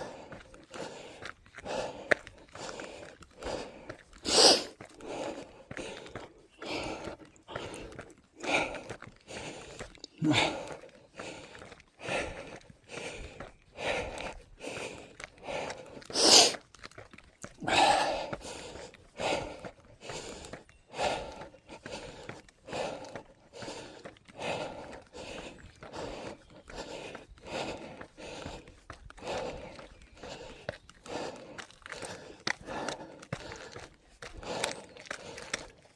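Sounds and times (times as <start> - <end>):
footsteps on a trail: 0.0 - 35.9
runner breathing heavily: 0.0 - 35.9.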